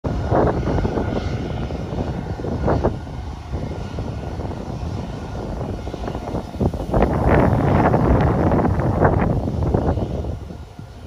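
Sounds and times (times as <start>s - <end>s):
jet engines taxiing: 0.0s - 11.0s.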